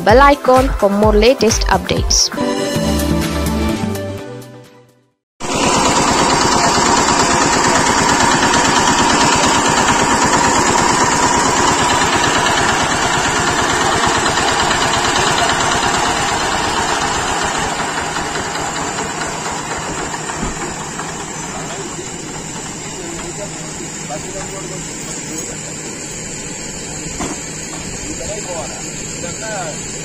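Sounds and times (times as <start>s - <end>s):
diesel engine idling: 5.4s - 30.0s.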